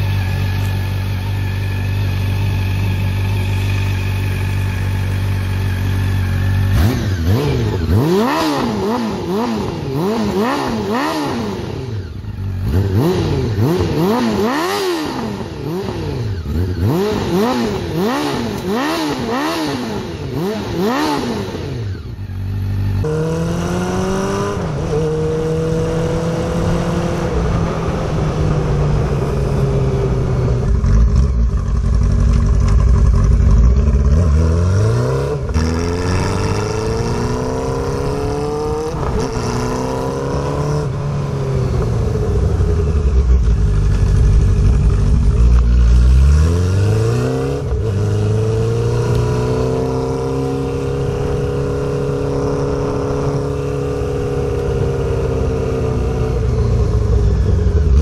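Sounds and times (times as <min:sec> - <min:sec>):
motorcycle engine revving while riding: 0:00.0 - 0:58.0.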